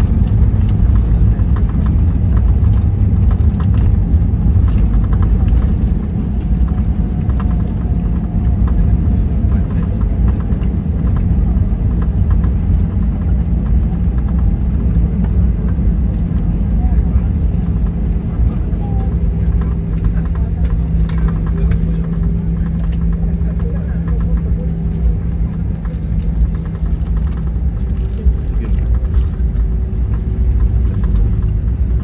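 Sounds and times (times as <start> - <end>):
aircraft engines rumbling: 0.0 - 32.0.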